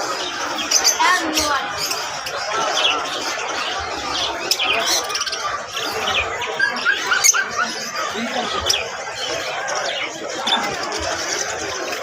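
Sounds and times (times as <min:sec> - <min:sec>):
caged birds chirping and squawking: 0:00.0 - 0:12.0
people talking: 0:00.0 - 0:12.0.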